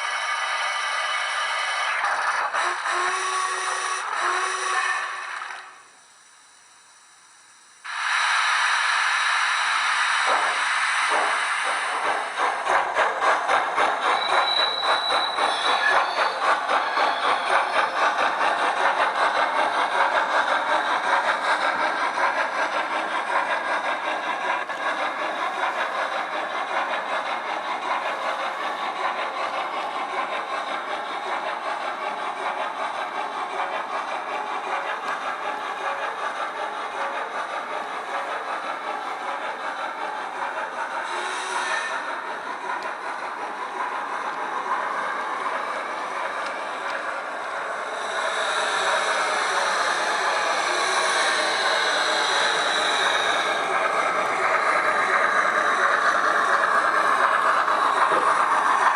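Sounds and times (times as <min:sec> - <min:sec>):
model steam locomotive chuffing: 0:00.0 - 0:58.9.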